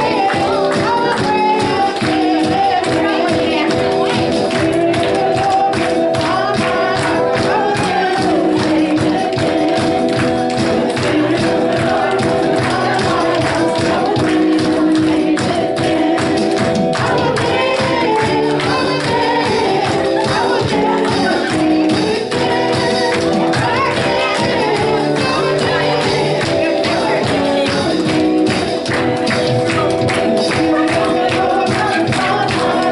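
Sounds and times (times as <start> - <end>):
group singing worship music: 0.0 - 32.9
tambourine beat: 0.0 - 32.9.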